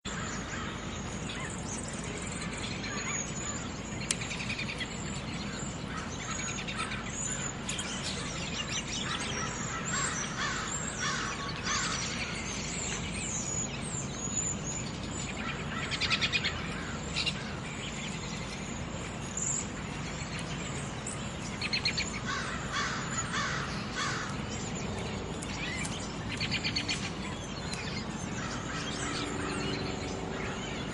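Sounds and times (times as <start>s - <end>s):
wild birds chirping: 0.0s - 30.9s
steady background hum: 0.1s - 30.9s.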